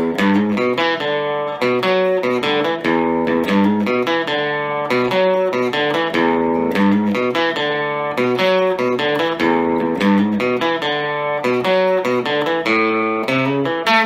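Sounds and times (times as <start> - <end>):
electric guitar picked notes and chords: 0.0 - 14.0.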